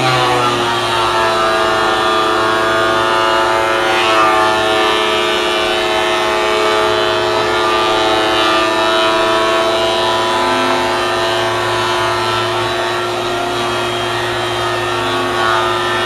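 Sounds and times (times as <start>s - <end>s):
thickness planer whining: 0.0s - 16.0s.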